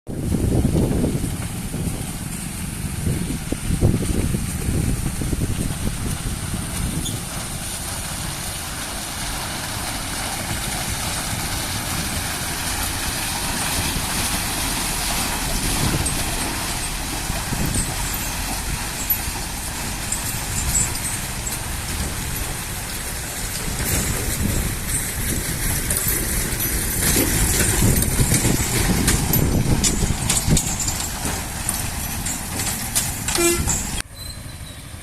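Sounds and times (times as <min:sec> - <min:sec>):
heavy trucks driving: 0:00.1 - 0:35.0.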